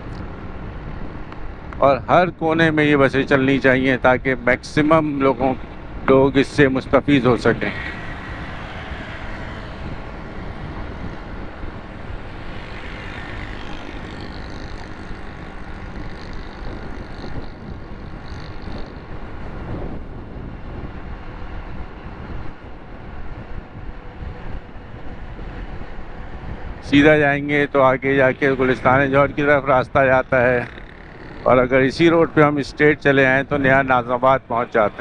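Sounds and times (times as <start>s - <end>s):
traffic: 0.0s - 35.0s
wind on microphone: 0.0s - 35.0s
motorcycle engine: 5.0s - 21.7s, 22.7s - 35.0s.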